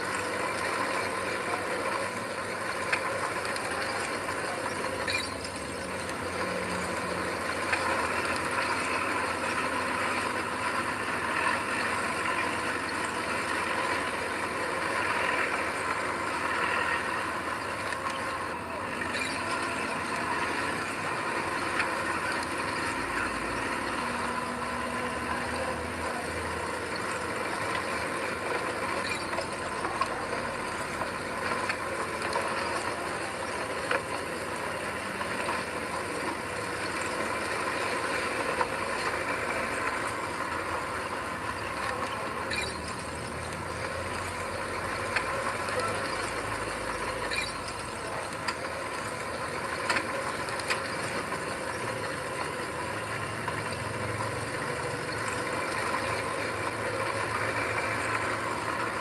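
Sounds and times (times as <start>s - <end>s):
heavy machinery running: 0.0s - 59.0s.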